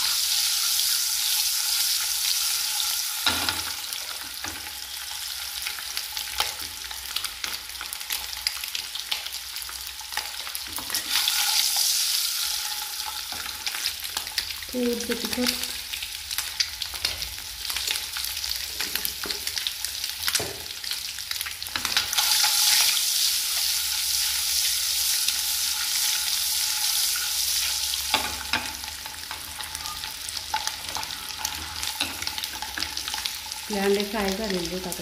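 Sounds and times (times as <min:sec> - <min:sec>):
eggs sizzling in hot oil: 0:00.0 - 0:35.0.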